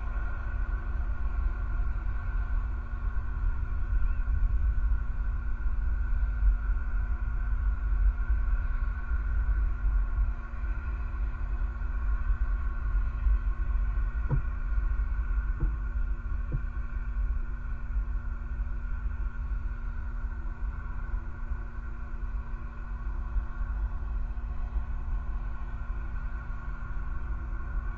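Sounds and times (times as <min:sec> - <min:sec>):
constant hum: 0:00.0 - 0:27.9
steady low rumble: 0:00.0 - 0:27.9.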